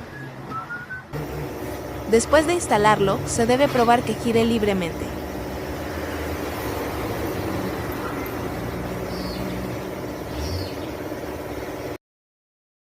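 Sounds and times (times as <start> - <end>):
vehicle hum: 0.0 - 12.0.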